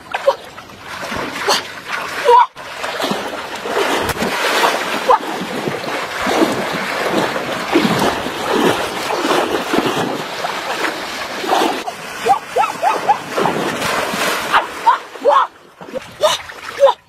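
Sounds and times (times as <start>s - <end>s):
person wading through water: 0.0s - 17.0s
water splashing and churning: 0.0s - 17.0s.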